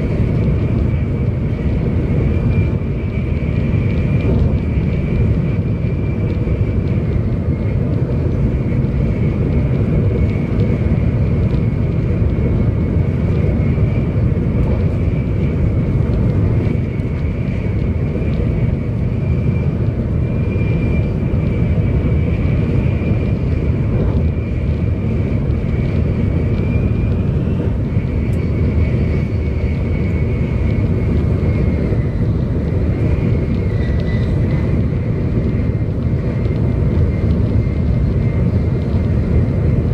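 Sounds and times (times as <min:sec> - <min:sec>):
faint high whine: 0:00.0 - 0:39.9
train cabin low rumble: 0:00.0 - 0:39.9.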